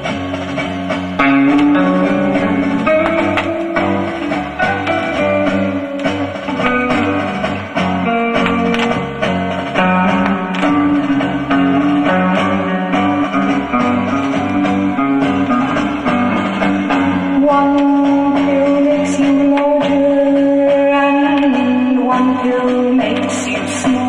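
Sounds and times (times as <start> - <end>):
guitar rock song on vinyl: 0.0 - 24.0.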